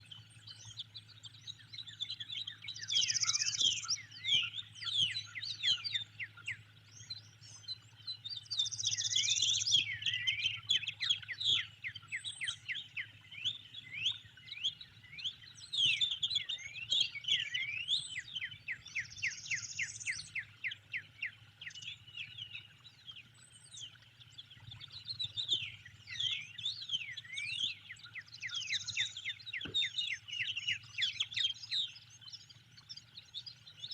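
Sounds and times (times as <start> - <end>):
songbirds chirping and singing: 0.0 - 33.9.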